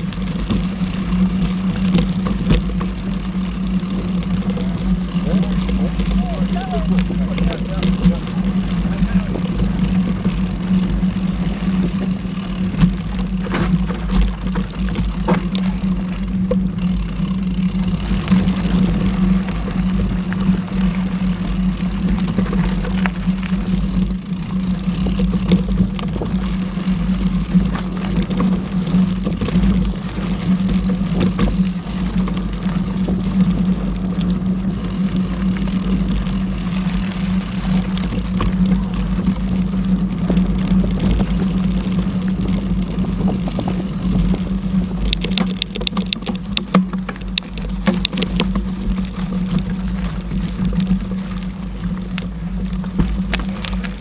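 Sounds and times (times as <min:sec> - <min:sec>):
bike rattling over bumps: 0:00.0 - 0:54.0
bike tyres humming on dirt: 0:00.0 - 0:54.0.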